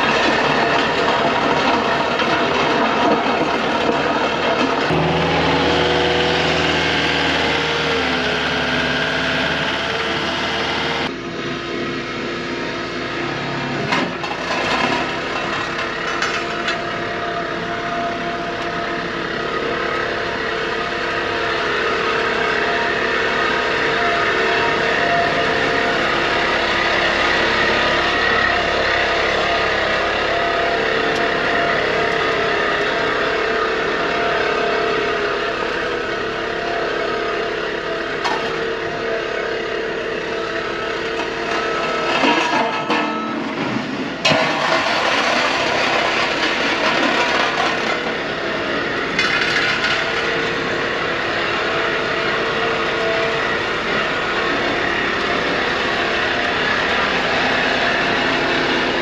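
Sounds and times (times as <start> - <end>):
diesel engine at high revs: 0.0 - 59.0.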